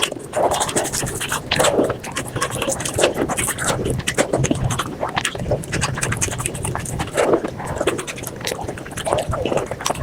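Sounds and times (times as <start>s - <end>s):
chewing and crunching food: 0.0s - 10.0s.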